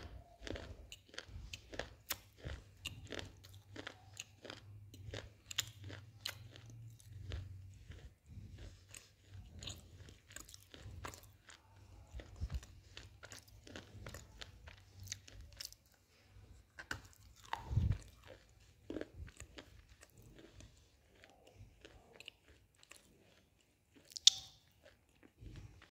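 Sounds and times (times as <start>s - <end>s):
person chewing stone crunches: 0.0s - 15.8s, 16.8s - 25.9s.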